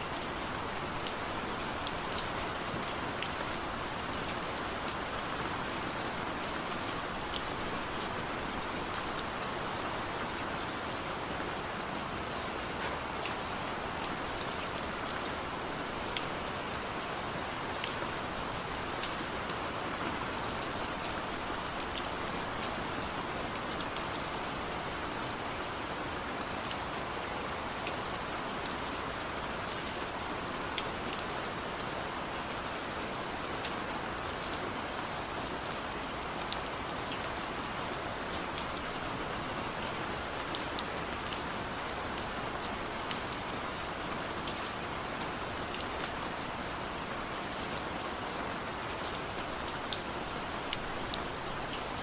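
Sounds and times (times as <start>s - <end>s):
steady rain hiss: 0.0s - 52.0s
raindrops ticking on a surface: 0.1s - 52.0s.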